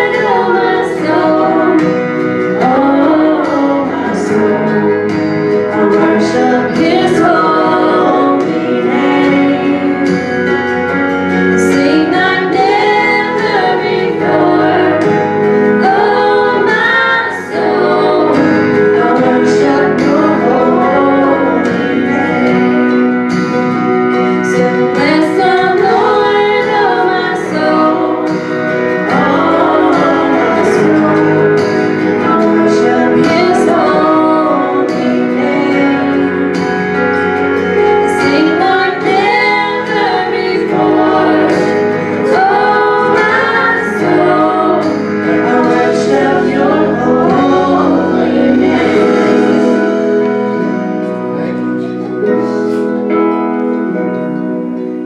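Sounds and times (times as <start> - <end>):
women singing a gospel song: 0.0 - 23.4, 24.3 - 50.8
instrumental accompaniment: 0.0 - 55.0.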